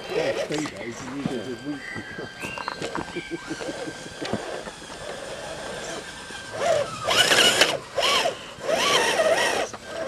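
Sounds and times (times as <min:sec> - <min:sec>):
toy truck motor whining: 0:00.0 - 0:10.0.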